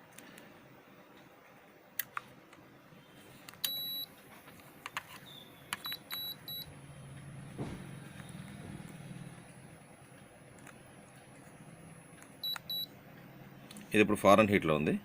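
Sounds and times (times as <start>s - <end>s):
air conditioner beeping: 0.0s - 15.0s.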